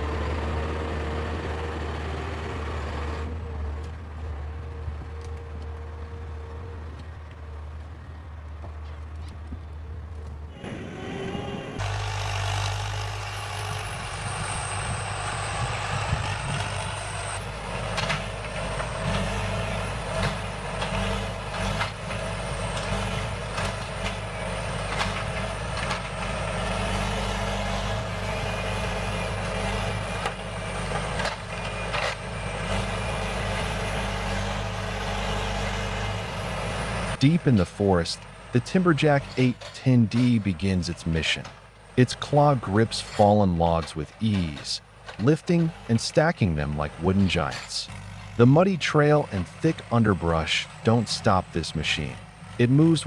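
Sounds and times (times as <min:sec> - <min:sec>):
heavy machine engine running: 0:00.0 - 0:53.0.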